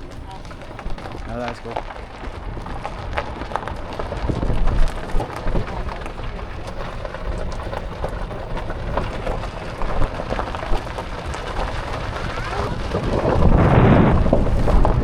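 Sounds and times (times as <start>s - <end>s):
tyres crackling: 0.0s - 15.0s
vehicle rolling on road: 0.0s - 15.0s
wind buffeting microphone: 0.0s - 15.0s.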